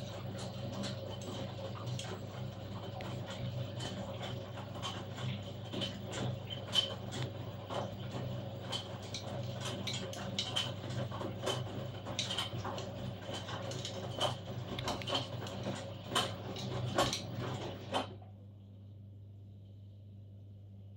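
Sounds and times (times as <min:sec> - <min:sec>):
laundry tumbling in washing machine: 0:00.0 - 0:18.4
washing machine hum: 0:00.0 - 0:20.9.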